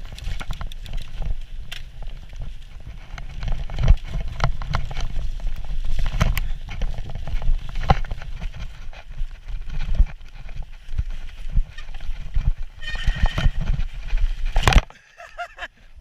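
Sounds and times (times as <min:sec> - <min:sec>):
wind on microphone: 0:00.0 - 0:14.9
bike clattering over bumps: 0:00.0 - 0:15.0
tyres rumbling on dirt trail: 0:00.0 - 0:16.0.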